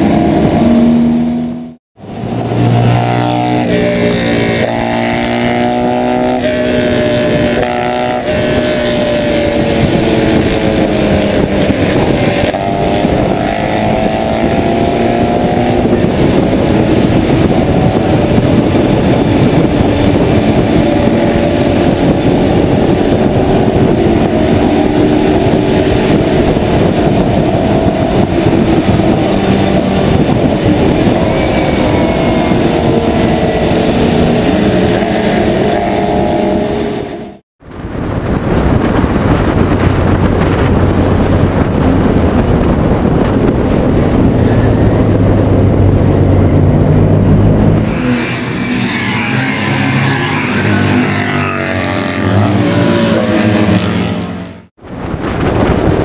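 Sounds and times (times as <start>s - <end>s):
car engine running hard: 0.0s - 56.0s
wind and road rush: 0.0s - 56.0s.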